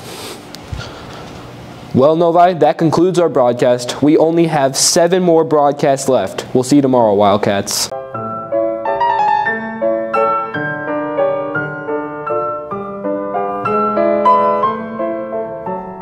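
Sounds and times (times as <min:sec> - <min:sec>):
piano music: 0:02.3 - 0:16.0.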